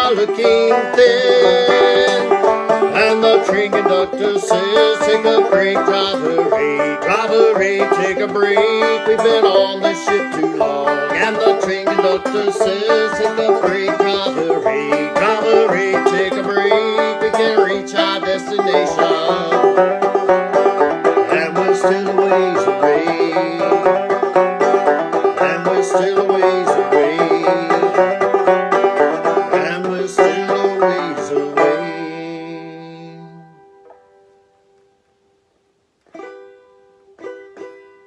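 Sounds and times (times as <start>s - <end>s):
banjo plucking: 0.0s - 34.6s, 36.0s - 38.0s.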